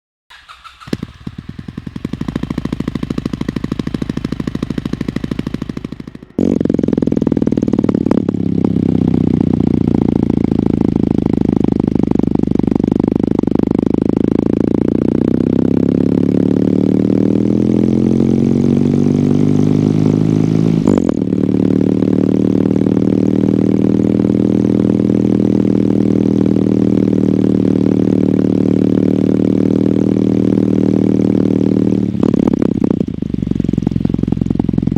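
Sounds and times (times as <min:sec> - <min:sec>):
motorcycle engine running: 0:00.3 - 0:34.9.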